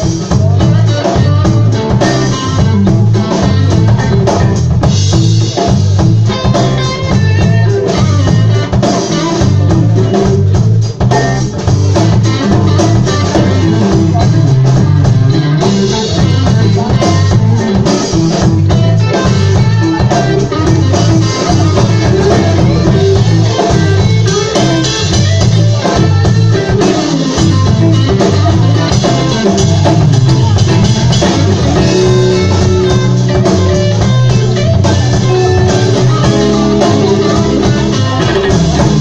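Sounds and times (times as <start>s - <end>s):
electric guitar: 0.0s - 39.0s
live band playing: 0.0s - 39.0s.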